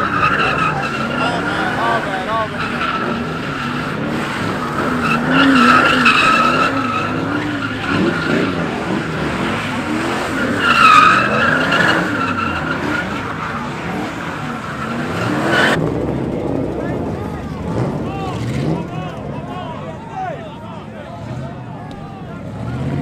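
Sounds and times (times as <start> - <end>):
engine revving: 0.0 - 19.7, 21.1 - 23.0
car tyres squealing: 0.0 - 23.0.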